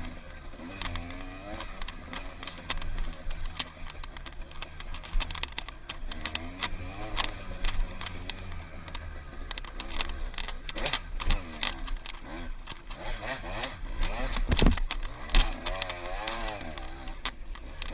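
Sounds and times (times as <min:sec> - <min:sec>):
dirt bike engine revving: 0:00.0 - 0:17.9
short knocks and rattles: 0:00.8 - 0:13.0, 0:14.0 - 0:17.9.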